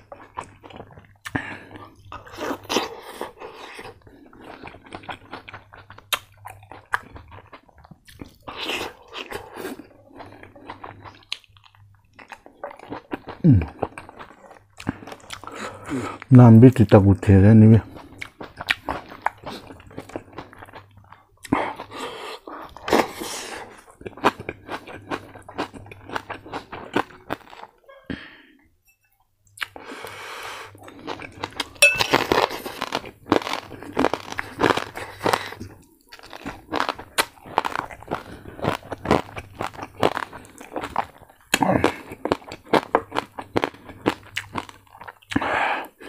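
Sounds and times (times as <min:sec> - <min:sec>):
chewing crispy pork: 0:00.0 - 0:28.4, 0:29.4 - 0:46.0.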